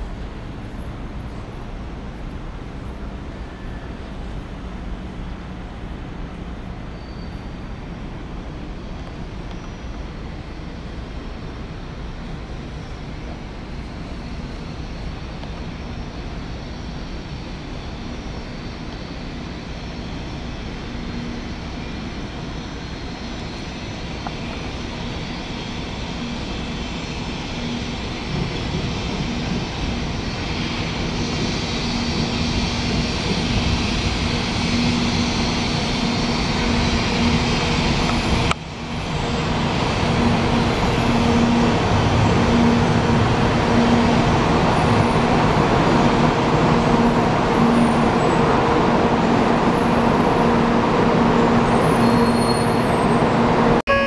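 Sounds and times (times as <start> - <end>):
train rumble and rushing air: 0.0 - 53.9.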